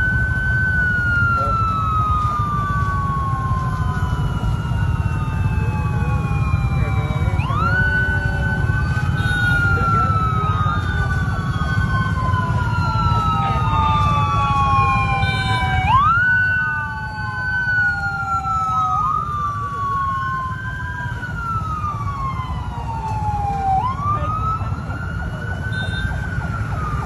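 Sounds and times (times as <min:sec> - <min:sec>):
police sirens wailing: 0:00.0 - 0:27.0.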